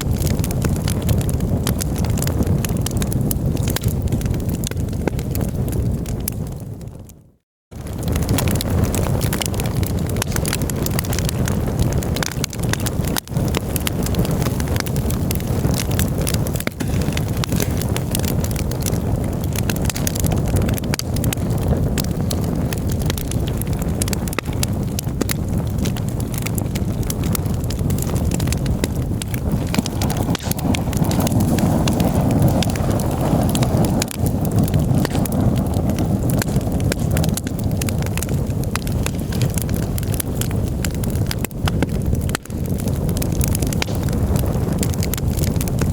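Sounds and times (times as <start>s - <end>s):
campfire crackling and popping: 0.0s - 45.9s
low fire rumble: 0.0s - 45.9s.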